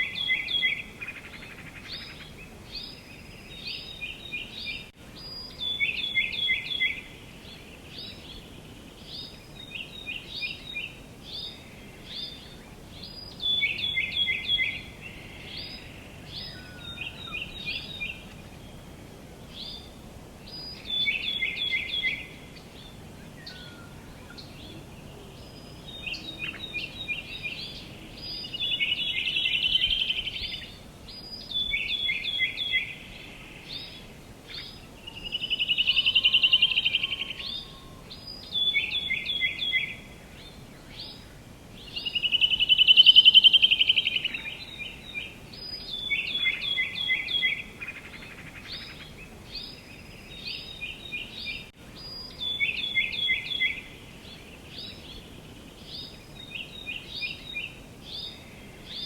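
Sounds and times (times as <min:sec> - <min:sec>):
faint outdoor background: 0:00.0 - 0:59.0
songbirds singing: 0:00.0 - 0:59.0.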